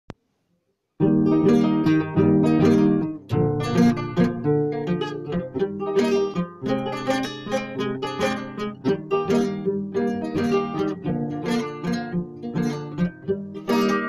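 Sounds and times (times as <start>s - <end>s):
acoustic guitar: 1.0s - 14.0s.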